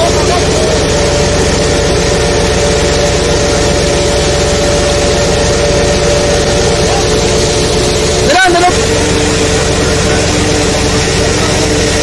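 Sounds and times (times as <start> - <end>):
boat engine and machinery hum: 0.0 - 12.0
broad rushing noise: 0.0 - 12.0.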